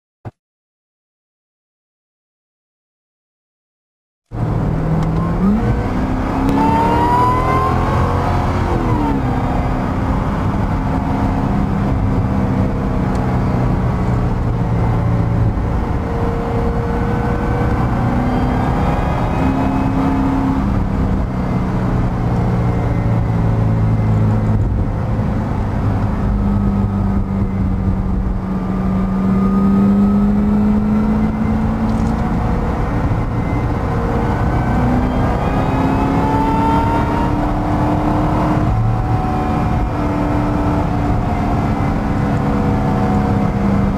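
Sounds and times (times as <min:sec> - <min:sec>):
car engine revving: 0:04.3 - 0:43.9
road and wind noise: 0:04.3 - 0:43.9.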